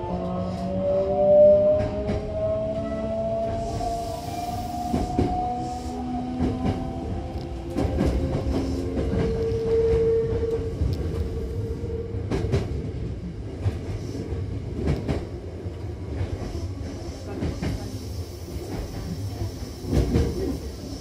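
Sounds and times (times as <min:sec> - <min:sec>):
humming tone of train drive: 0:00.0 - 0:21.0
train wheels rumbling on track: 0:00.0 - 0:21.0.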